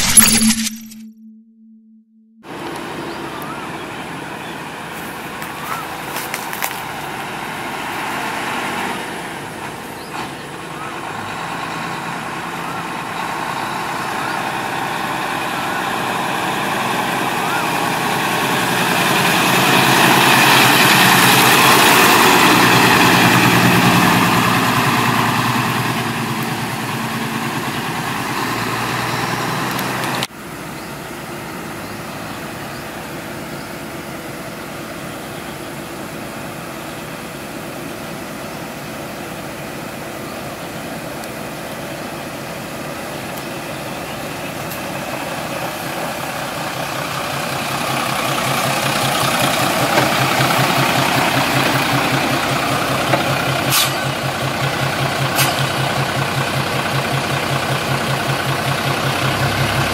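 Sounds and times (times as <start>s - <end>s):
diesel engine idling: 2.4s - 59.9s
truck diesel engine passing: 2.4s - 59.9s.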